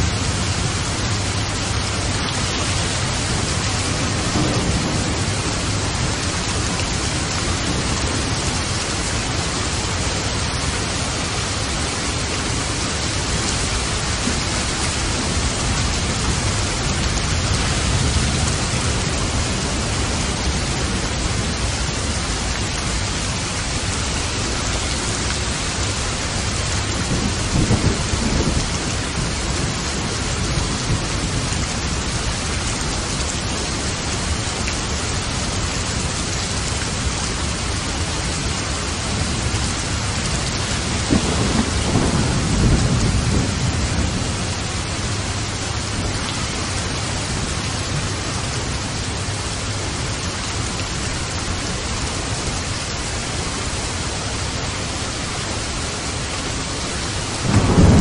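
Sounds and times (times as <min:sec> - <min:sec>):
thunder rumbling: 0:00.0 - 0:50.8, 0:56.4 - 0:58.0
heavy rainfall: 0:00.0 - 0:58.0.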